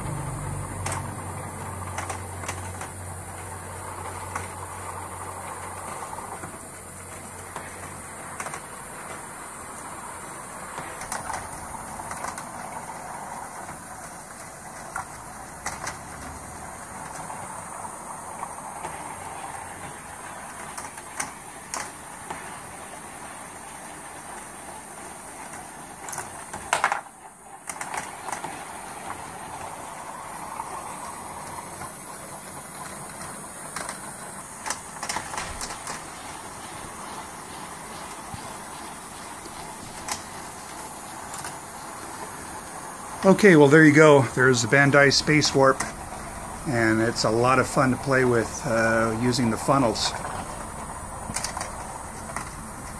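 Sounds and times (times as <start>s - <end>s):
steel balls rolling on plastic rails: 0.0s - 52.9s.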